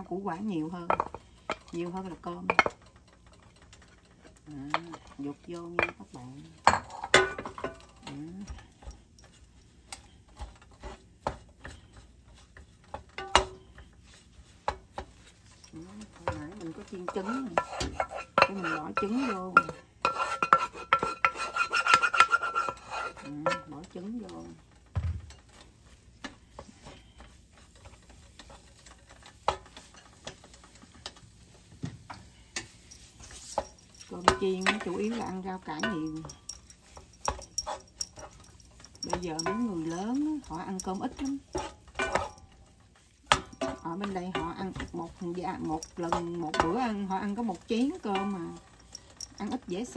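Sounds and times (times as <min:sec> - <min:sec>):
wooden spatula scraping frying pan: 0:00.7 - 0:08.2, 0:09.1 - 0:49.9.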